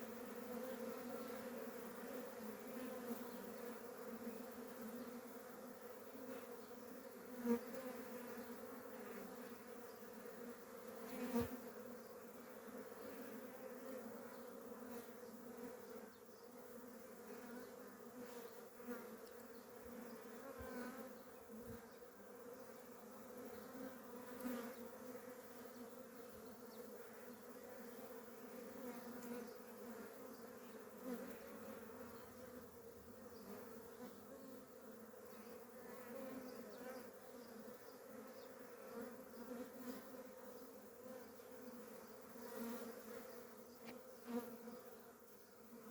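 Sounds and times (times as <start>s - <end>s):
honeybees buzzing: 0.0s - 45.9s.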